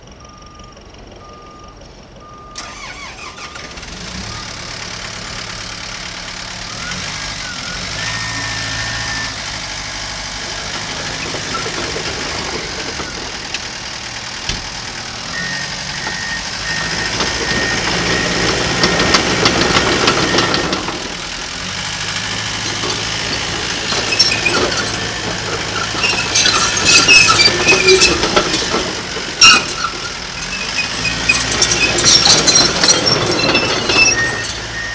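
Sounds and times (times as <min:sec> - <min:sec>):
diesel engine starting and running: 0:00.0 - 0:34.9
metallic clanking and squealing: 0:02.6 - 0:34.9.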